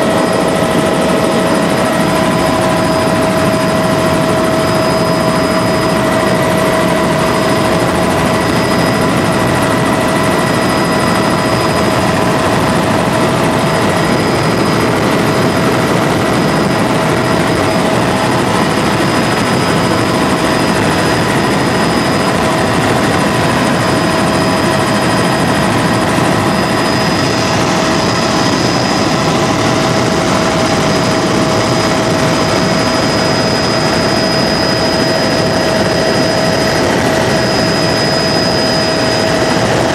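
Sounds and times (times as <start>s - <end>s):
helicopter rotor and engine drone: 0.0s - 39.9s
steady whining tones: 0.0s - 39.9s.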